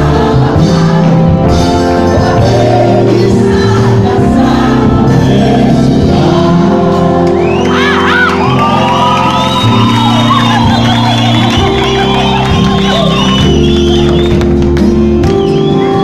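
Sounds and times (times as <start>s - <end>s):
gospel choir singing: 0.0s - 14.2s
amplified keyboards and drums: 0.0s - 16.0s.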